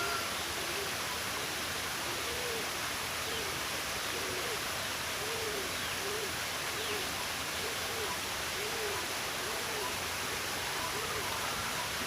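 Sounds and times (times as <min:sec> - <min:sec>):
rushing hiss of water: 0:00.0 - 0:12.0.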